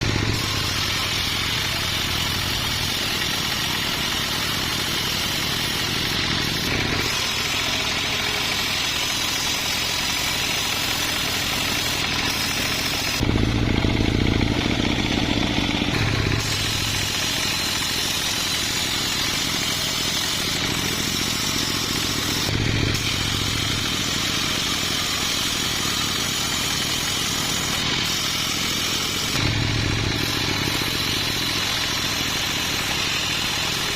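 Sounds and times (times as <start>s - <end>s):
bright machinery hiss: 0.0s - 33.9s
sawmill engine drone: 0.0s - 33.9s.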